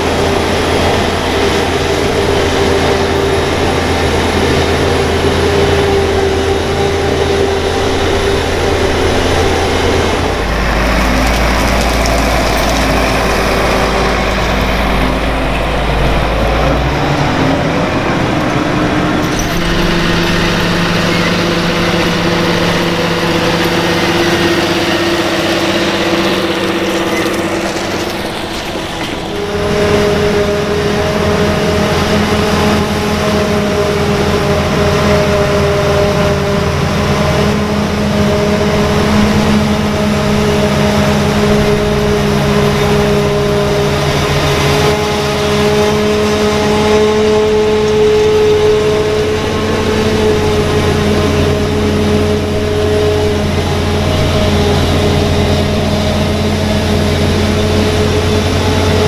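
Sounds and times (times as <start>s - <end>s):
machine whine: 0.0s - 59.0s
tractor and harvester engines: 0.0s - 59.0s.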